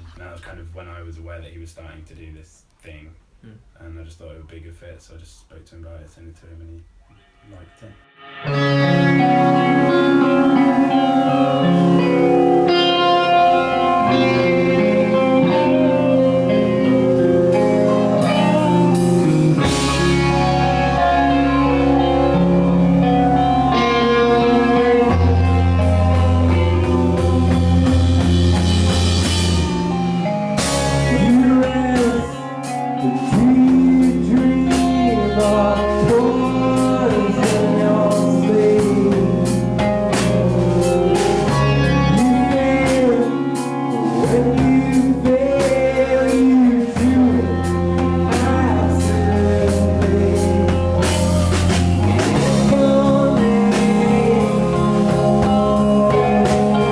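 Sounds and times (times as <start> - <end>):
grunge rock band playing: 8.2 - 56.9
person singing: 8.4 - 56.9.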